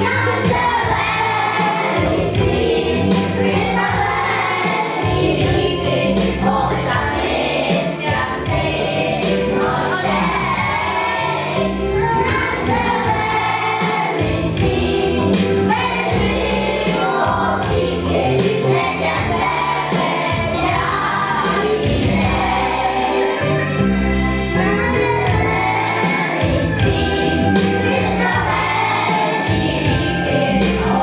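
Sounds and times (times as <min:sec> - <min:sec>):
children singing in chorus: 0:00.0 - 0:23.8, 0:24.6 - 0:31.0
instrumental accompaniment: 0:00.0 - 0:31.0.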